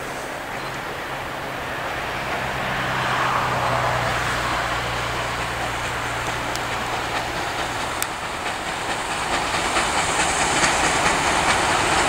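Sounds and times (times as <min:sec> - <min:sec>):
steam locomotive running: 0:00.0 - 0:12.0.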